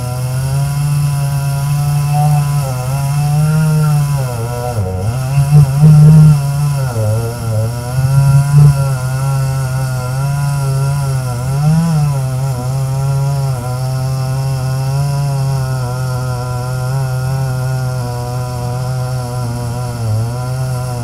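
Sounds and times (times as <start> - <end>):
chainsaw cutting tree trunk: 0.0 - 21.0.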